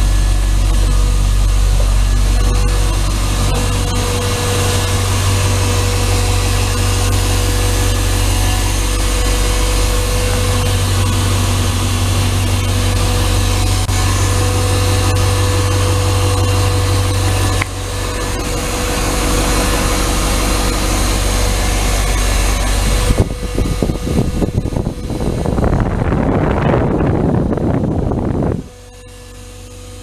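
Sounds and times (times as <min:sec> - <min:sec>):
diesel bus engine idling: 0:00.0 - 0:30.0.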